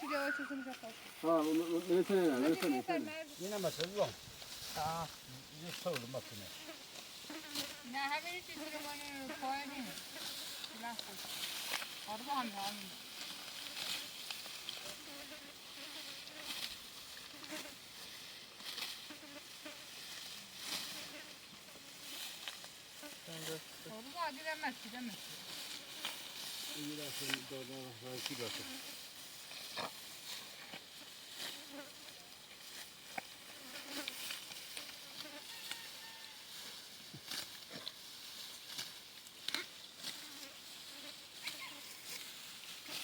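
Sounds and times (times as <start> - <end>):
soft hissy rustling: 0.0 - 43.0
insect buzzing: 4.2 - 37.6, 38.8 - 43.0.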